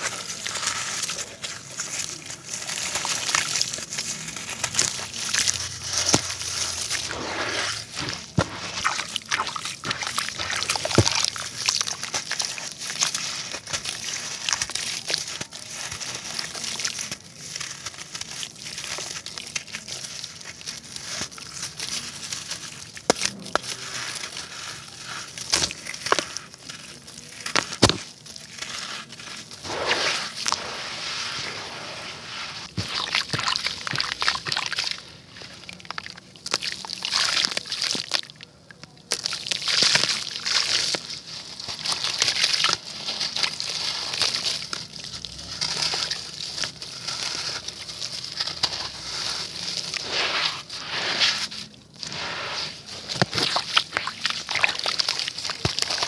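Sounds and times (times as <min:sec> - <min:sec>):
wet concrete crunching: 0:00.0 - 0:56.0.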